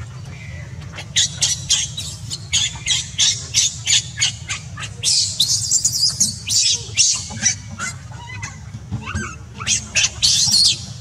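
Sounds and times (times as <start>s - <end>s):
baby monkey screaming: 1.0s - 11.0s.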